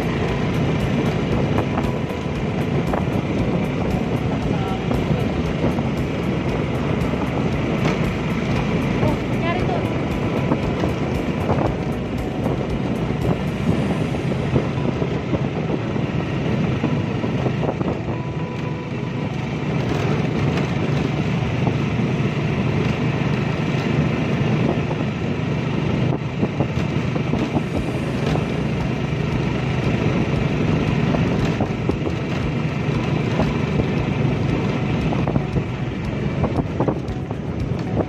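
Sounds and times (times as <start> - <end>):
vehicle knocks and rattles: 0.0 - 13.8, 19.7 - 25.0, 26.0 - 38.0
wind on microphone: 0.0 - 18.6, 23.8 - 38.0
tyres on gravel road: 0.0 - 38.0
vehicle engine running: 0.0 - 38.0.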